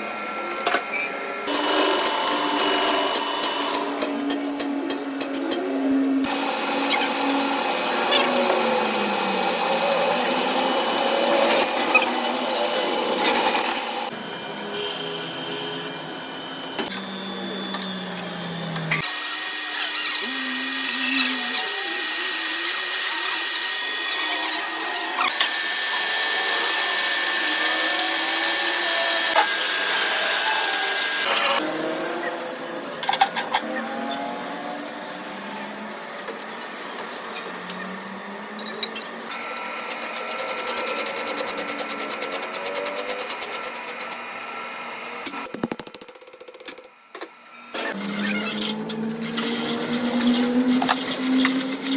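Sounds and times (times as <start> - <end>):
power tool whine and grind: 0.0 - 45.6, 46.8 - 51.9.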